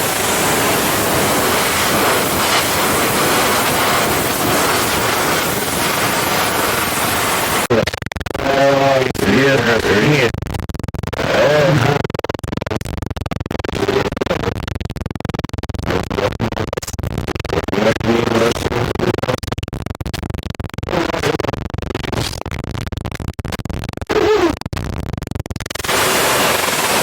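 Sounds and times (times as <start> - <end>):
crackling tv static: 0.0 - 27.0.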